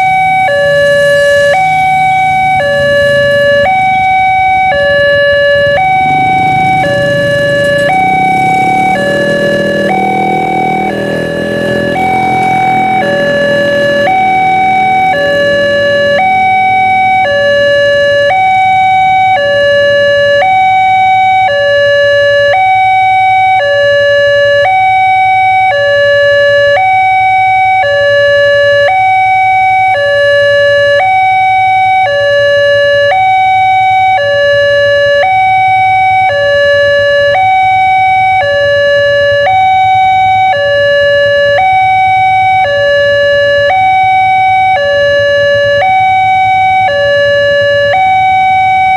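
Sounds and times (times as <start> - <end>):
two-tone crossing alarm: 0.0 - 48.9.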